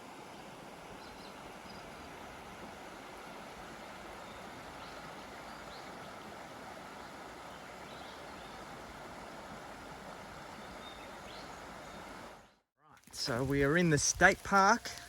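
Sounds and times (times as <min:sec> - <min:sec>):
stream flowing: 0:00.0 - 0:12.5.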